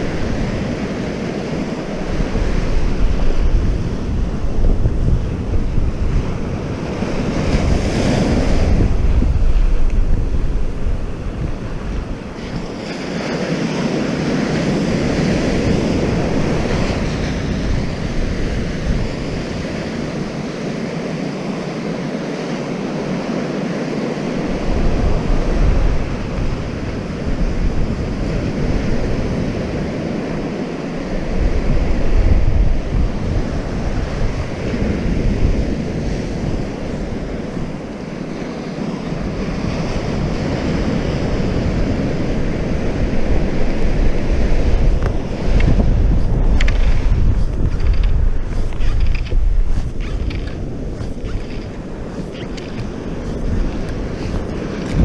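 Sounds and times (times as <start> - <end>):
surf washing on sandy beach: 0.0 - 55.0
wind buffeting microphone: 0.0 - 55.0.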